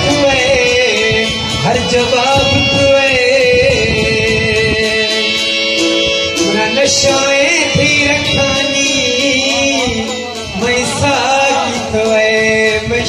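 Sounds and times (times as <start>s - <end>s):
harmonium: 0.0s - 13.0s
man singing: 0.0s - 13.0s
plucked lute: 0.0s - 13.0s
tabla beat: 0.0s - 13.0s.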